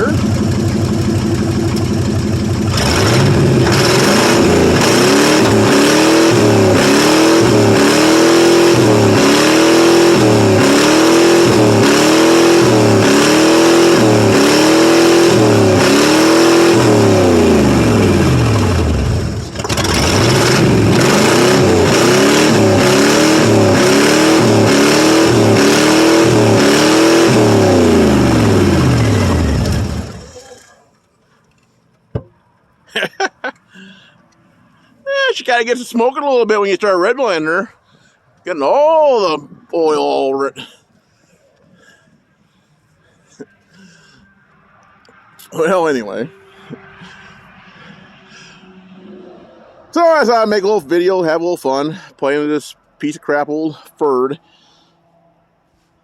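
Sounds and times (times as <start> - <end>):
truck engine idling and revving: 0.0 - 35.0, 39.1 - 56.0.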